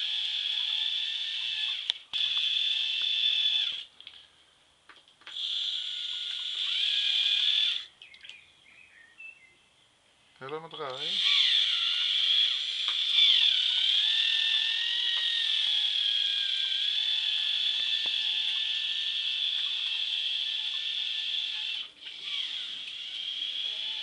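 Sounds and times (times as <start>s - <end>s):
toy motor high whine: 0.0s - 3.9s, 5.3s - 7.9s, 10.9s - 24.0s.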